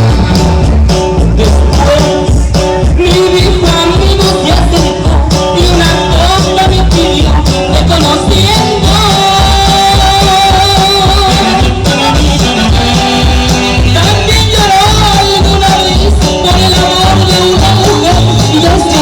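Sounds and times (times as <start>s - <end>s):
bass beat: 0.0s - 19.0s
latin music over sound system: 0.0s - 19.0s
person singing: 0.0s - 19.0s
shaker percussion: 0.0s - 19.0s.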